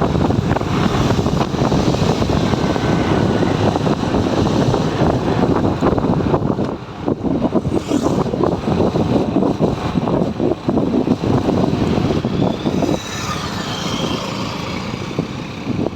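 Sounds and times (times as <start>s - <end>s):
motorcycle engine running: 0.0s - 15.9s
wind buffeting microphone: 0.0s - 15.9s.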